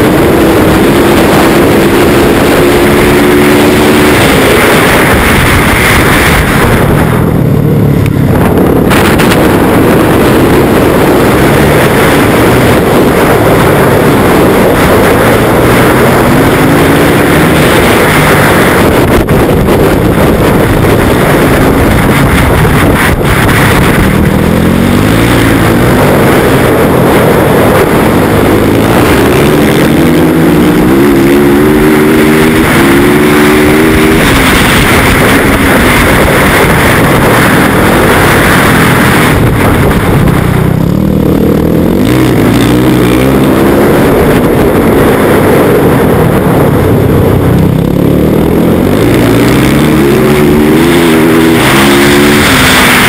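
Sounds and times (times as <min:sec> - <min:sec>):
motorcycle engine revving hard: 0:00.0 - 0:53.0
wind noise on microphone: 0:00.0 - 0:53.0.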